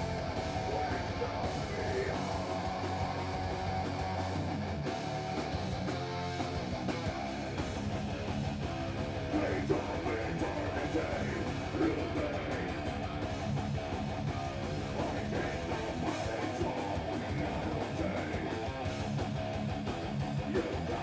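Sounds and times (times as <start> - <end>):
heavy metal band playing live: 0.0 - 21.0.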